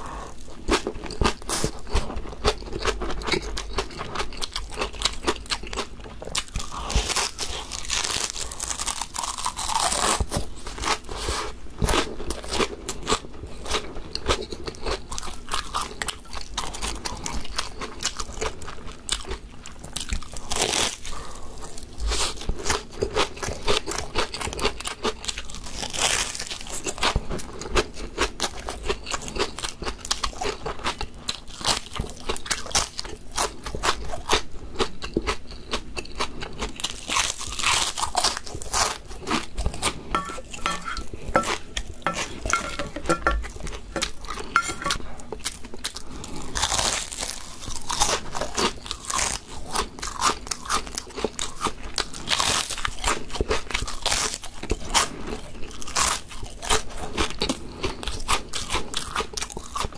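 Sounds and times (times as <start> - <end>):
crunching and chewing crisp chips: 0.0 - 59.9.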